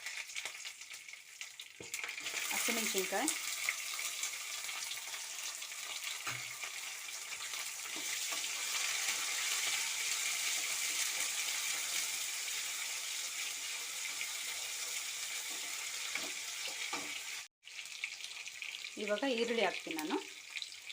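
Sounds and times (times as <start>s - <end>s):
spices sizzling in hot oil: 0.0s - 20.9s.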